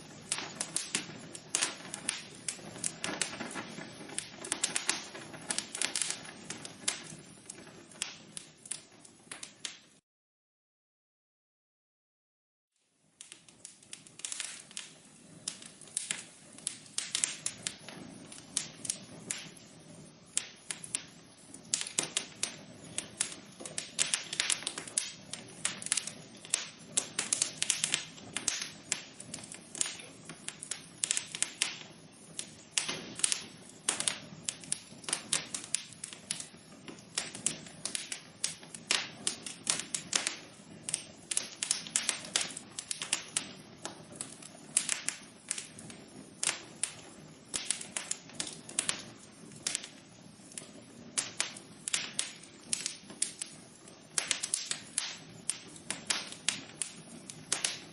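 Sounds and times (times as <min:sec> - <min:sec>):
wood fire crackling and popping: 0:00.0 - 0:10.0, 0:12.8 - 0:57.9.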